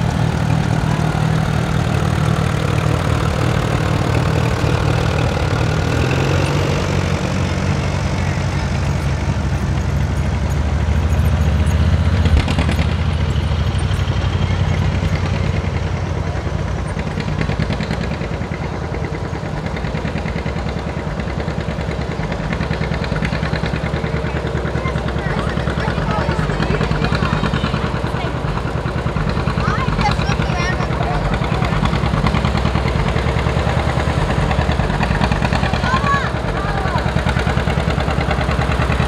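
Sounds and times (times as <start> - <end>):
tractor engines droning: 0.0 - 39.0.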